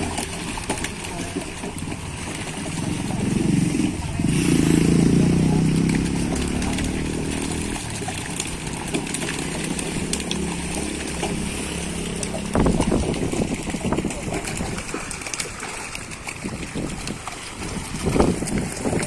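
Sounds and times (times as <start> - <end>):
fish splashing in water: 0.0 - 19.0
small engine running: 0.0 - 19.0.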